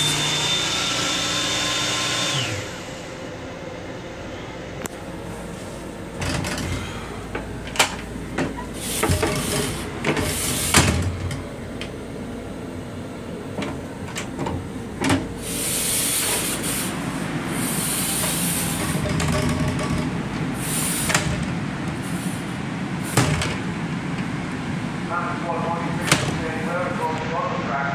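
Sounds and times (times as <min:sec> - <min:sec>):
rail car rumble and hiss: 0:00.0 - 0:00.9, 0:02.4 - 0:27.9.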